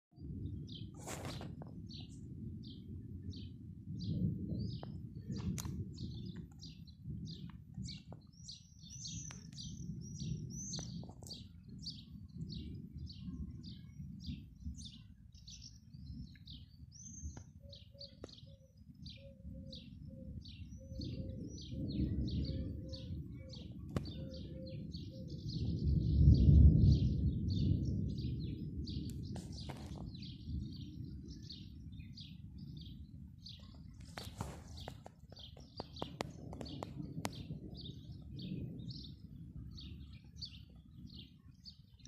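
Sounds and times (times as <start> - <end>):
small birds chirping: 0.6 - 42.0.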